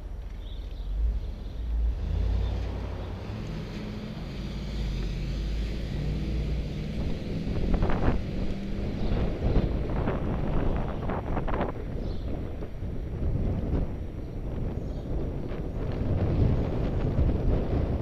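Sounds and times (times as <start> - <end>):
bus engine rumbling: 0.0 - 18.0
wind buffeting microphone: 0.4 - 18.0.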